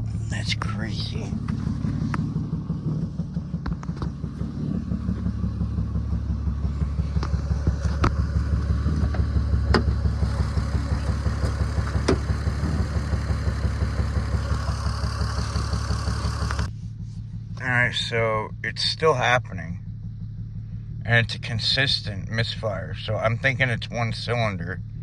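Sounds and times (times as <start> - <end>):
misfiring car engine: 0.0 - 25.0.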